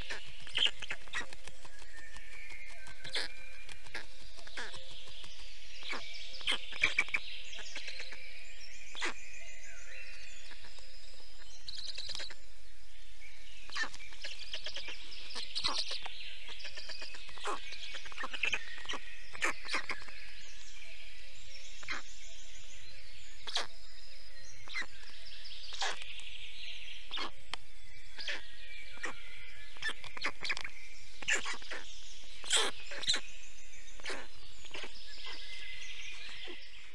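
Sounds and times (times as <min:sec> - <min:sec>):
songbirds singing and chirping: 0:00.0 - 0:36.9.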